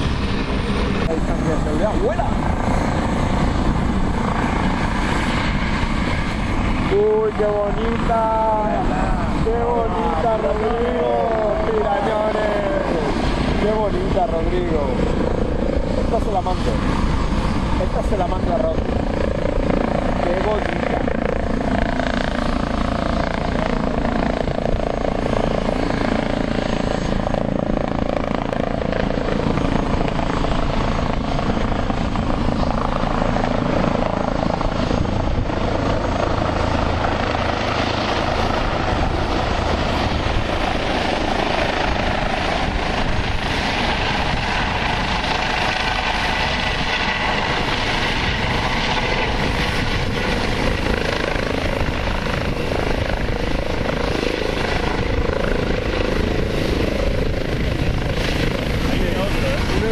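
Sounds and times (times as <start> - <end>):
helicopter rotor and turbines: 0.0 - 59.9.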